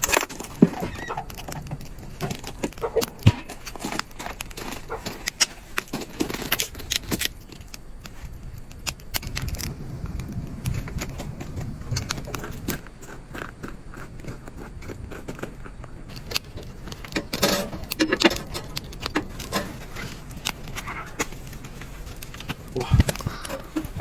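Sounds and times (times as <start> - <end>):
objects being handled: 0.0 - 24.0.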